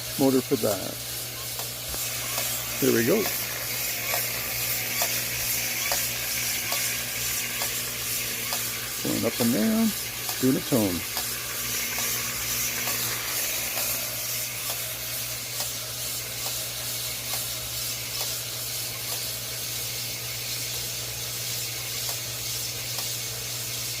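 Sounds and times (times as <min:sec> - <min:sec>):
wiper motor: 0:00.0 - 0:19.8
drill hissing and humming: 0:00.0 - 0:24.0.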